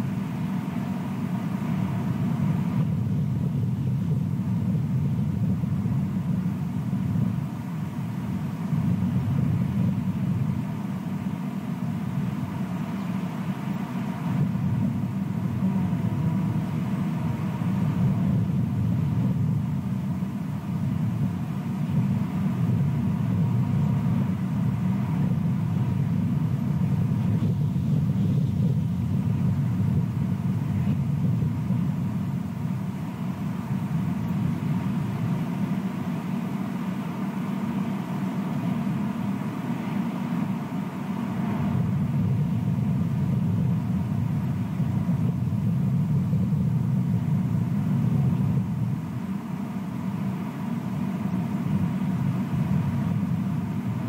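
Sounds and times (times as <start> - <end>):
faint thin hum: 0.0 - 54.0
low outdoor rumble: 0.0 - 54.0.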